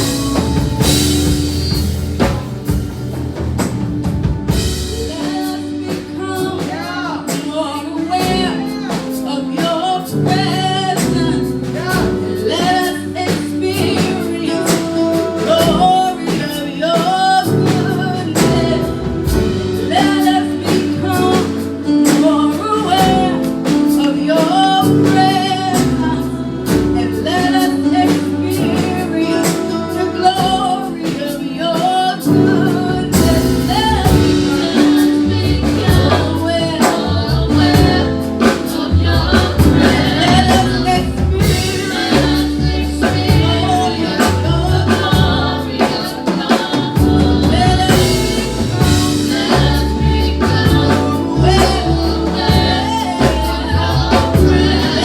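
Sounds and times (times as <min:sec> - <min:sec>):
gospel band playing: 0:00.0 - 0:55.0
singers singing: 0:00.0 - 0:55.0.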